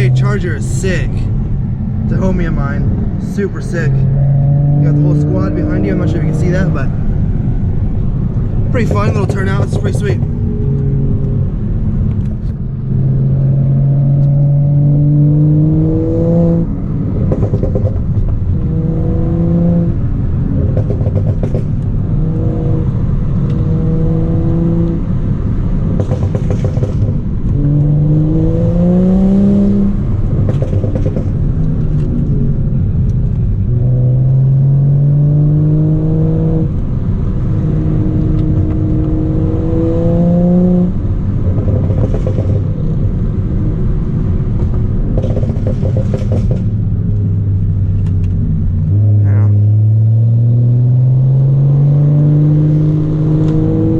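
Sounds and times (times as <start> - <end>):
car exhaust revving: 0.0 - 53.9.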